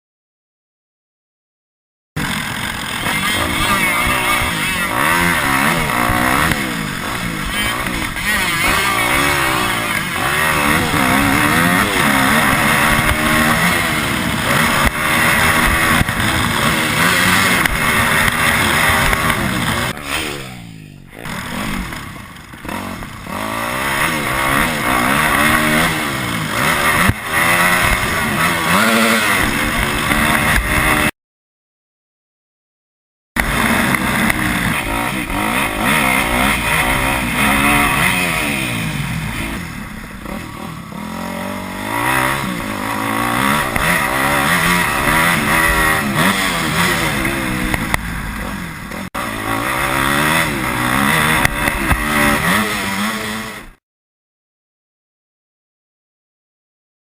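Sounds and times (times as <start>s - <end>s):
dirt bike engines revving: 2.2s - 31.1s, 33.4s - 53.8s.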